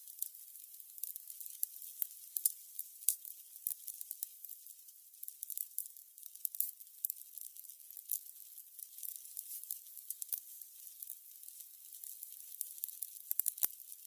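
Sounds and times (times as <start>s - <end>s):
candles crackling: 0.0s - 14.0s.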